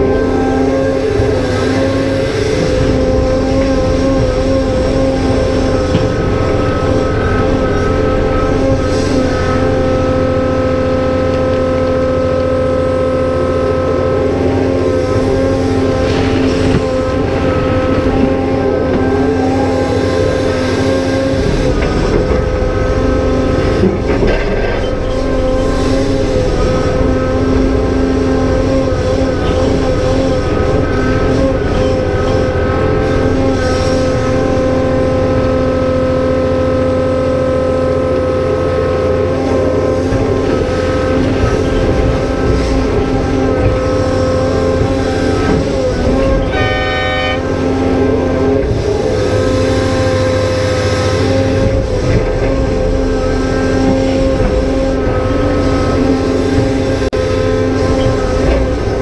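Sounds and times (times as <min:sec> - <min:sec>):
excavator diesel engine working: 0:00.0 - 0:59.0.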